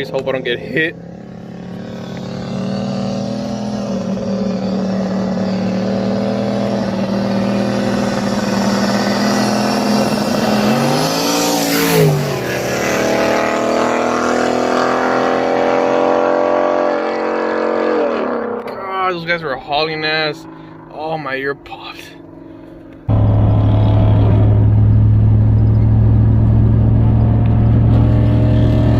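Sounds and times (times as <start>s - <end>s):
car engines at full throttle: 0.0s - 28.9s
cars passing at speed: 0.9s - 18.6s, 22.2s - 28.9s.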